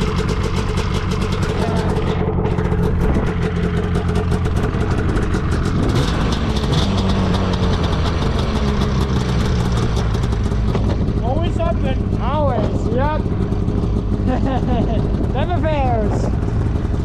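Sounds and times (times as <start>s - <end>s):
snowmobile engine idling: 0.0s - 17.0s.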